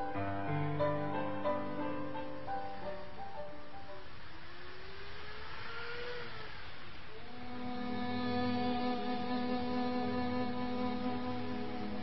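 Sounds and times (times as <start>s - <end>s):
soft music with held notes: 0.0s - 5.2s, 7.1s - 12.0s
faint background hiss: 0.0s - 12.0s.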